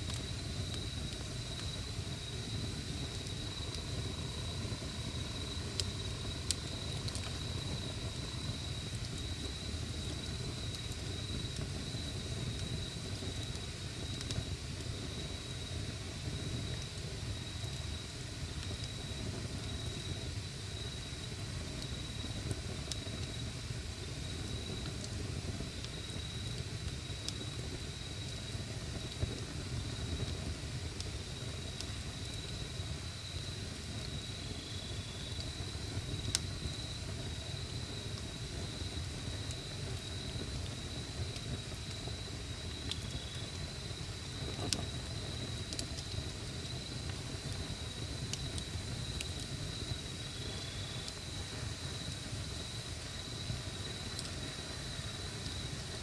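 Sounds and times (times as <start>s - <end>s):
campfire burning: 0.0s - 56.0s
cricket trilling: 0.1s - 18.2s, 24.2s - 56.0s.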